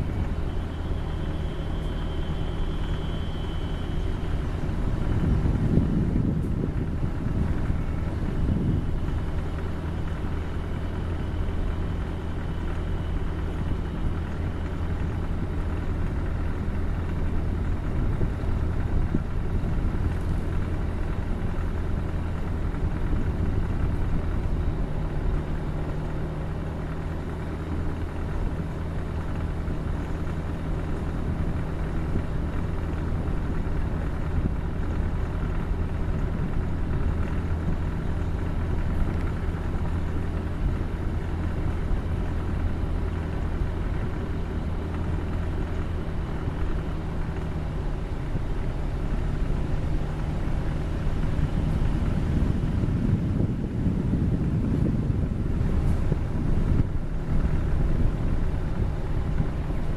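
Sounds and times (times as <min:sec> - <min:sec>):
car engine hum: 0:00.0 - 0:59.9
tyre and road noise: 0:00.0 - 0:59.9.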